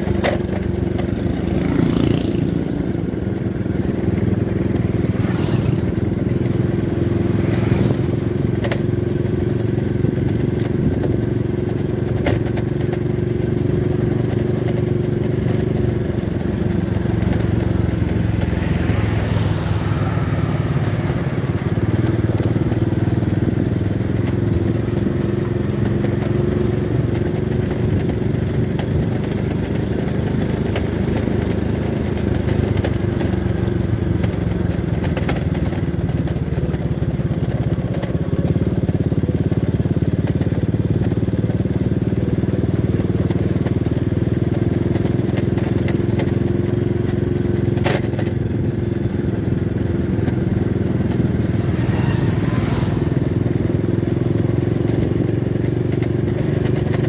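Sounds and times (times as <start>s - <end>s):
road noise: 0.0s - 57.0s
small motorcycle engine cruising: 0.0s - 57.0s.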